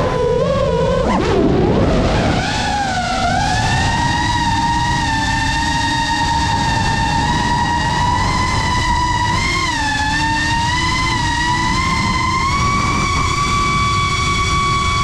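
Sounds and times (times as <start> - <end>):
wind rushing: 0.0 - 14.2
quadcopter motors whining: 0.0 - 15.0.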